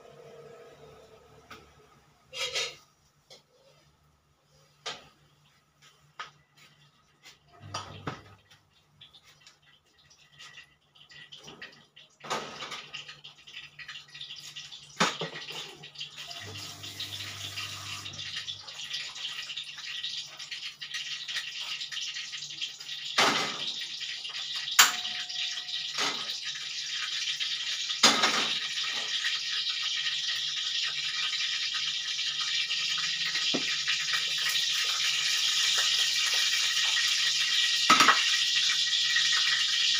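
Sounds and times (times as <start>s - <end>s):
fish frying in oil: 4.9s - 39.9s.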